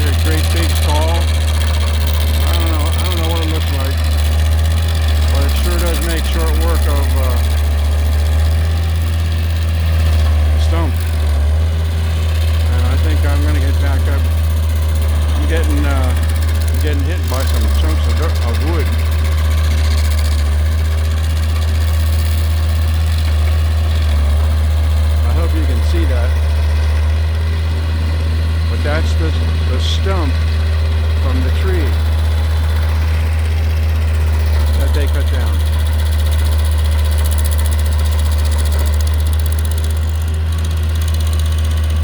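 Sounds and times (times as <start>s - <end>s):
stump grinder grinding: 0.0s - 42.0s.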